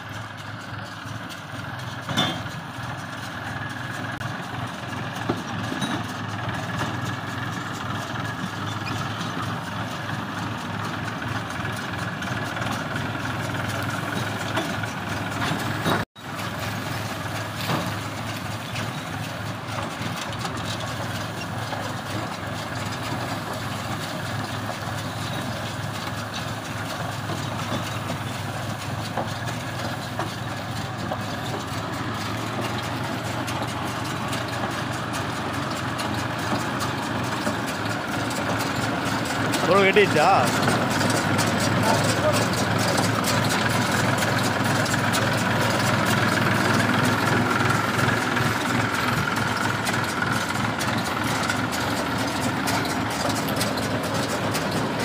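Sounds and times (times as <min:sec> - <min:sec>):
baler working through straw: 0:00.0 - 0:55.0
diesel tractor running: 0:00.0 - 0:55.0.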